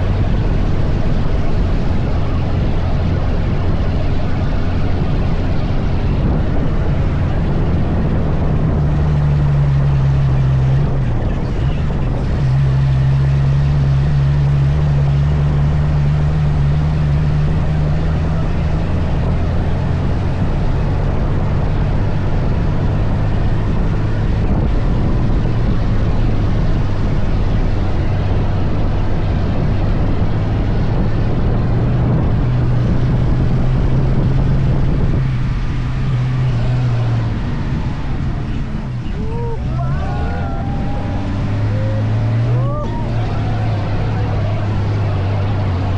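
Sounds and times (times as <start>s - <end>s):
dune buggy engine droning: 0.0s - 45.9s
steady rushing noise: 0.0s - 45.9s.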